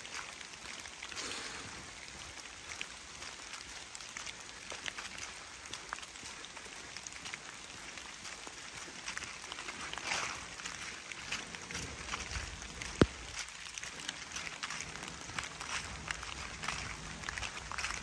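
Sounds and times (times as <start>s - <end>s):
footsteps through wet leaves: 0.0s - 18.0s
rain dripping on leaves: 0.0s - 18.0s.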